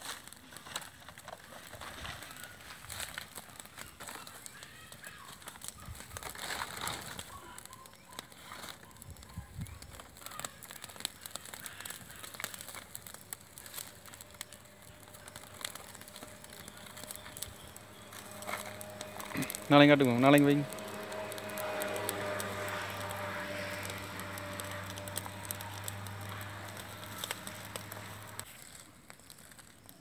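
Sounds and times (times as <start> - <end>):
fire crackling and snapping: 0.0 - 30.0.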